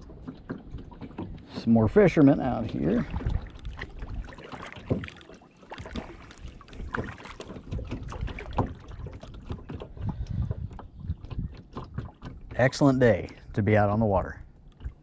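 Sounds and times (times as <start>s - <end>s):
wind rumbling on microphone: 0.0s - 5.1s, 6.0s - 15.0s
paddle splashing in water: 0.0s - 15.0s.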